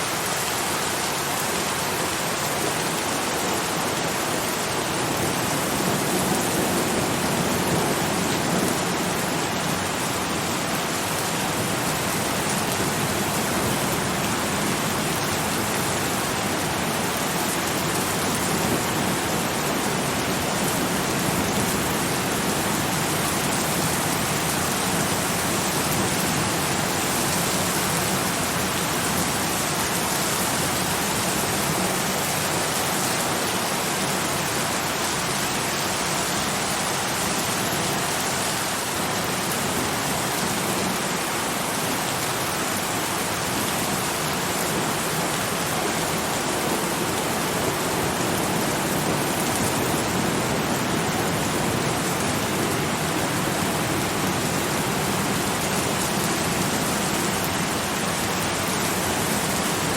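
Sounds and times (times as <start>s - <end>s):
heavy rain hiss: 0.0s - 59.9s.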